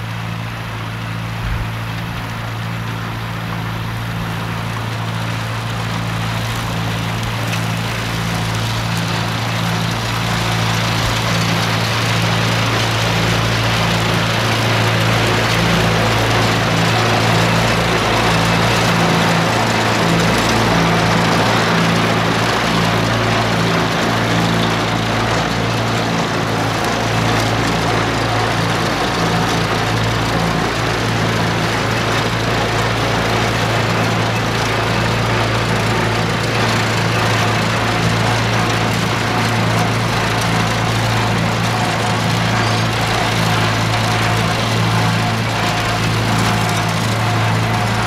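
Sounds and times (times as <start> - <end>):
mower cutting grass: 0.0 - 48.0
tractor engine running under load: 0.0 - 48.0.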